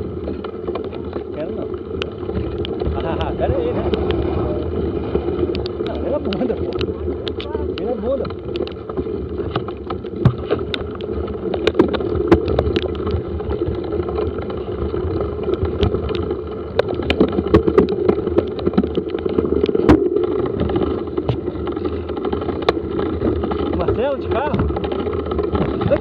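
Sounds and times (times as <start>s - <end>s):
bicycle rattling over bumps: 0.0s - 26.0s
bicycle tyres rumbling: 0.0s - 26.0s.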